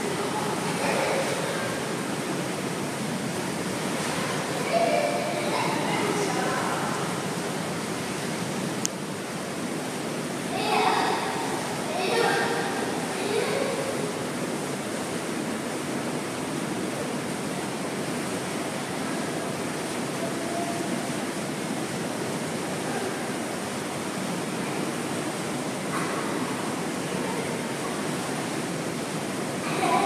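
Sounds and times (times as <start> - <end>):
hot tub jets churning water: 0.0 - 30.0.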